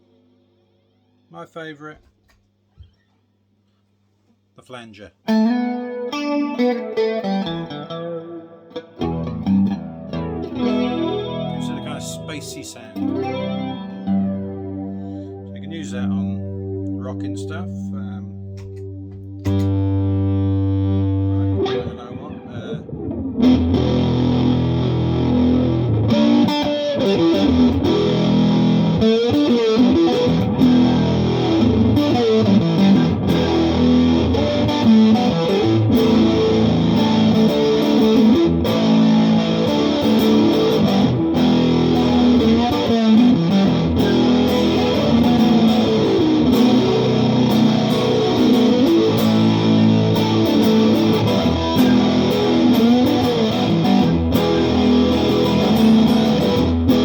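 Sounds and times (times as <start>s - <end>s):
electric guitar with flanger: 5.3s - 57.0s.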